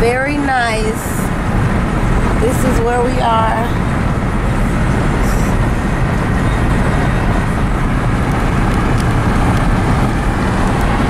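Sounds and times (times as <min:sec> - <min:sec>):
road and wind noise inside car: 0:00.0 - 0:11.0.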